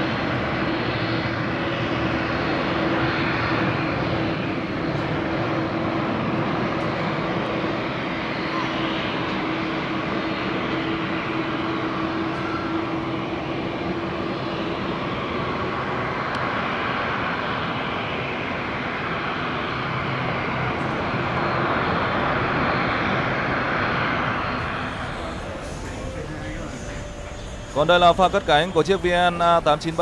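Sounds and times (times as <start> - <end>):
jet engines rushing: 0.0 - 30.0.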